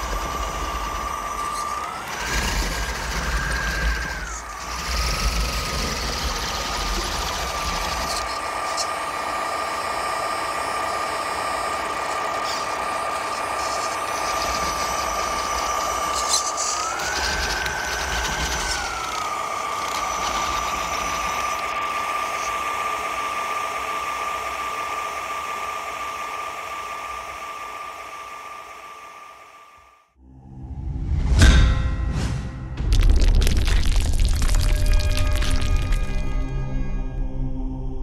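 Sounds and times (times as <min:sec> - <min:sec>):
steady high whine: 0:00.0 - 0:38.0.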